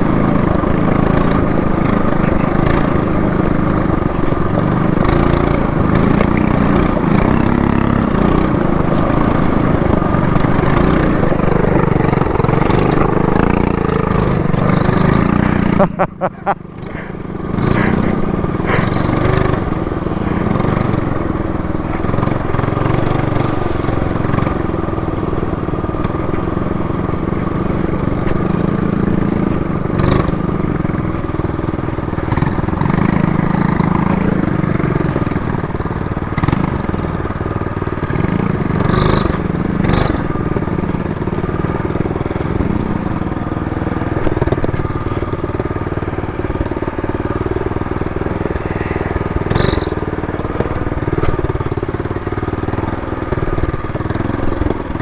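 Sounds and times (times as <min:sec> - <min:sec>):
small motorbike engine: 0:00.0 - 0:55.0.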